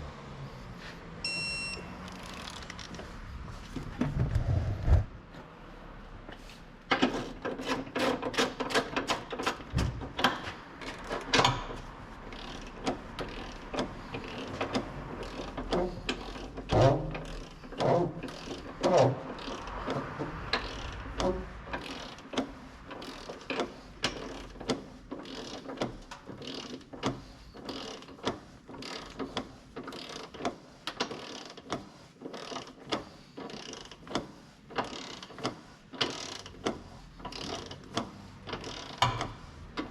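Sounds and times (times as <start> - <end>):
ratchet wrench clicking: 2.0 - 3.0, 6.9 - 39.9.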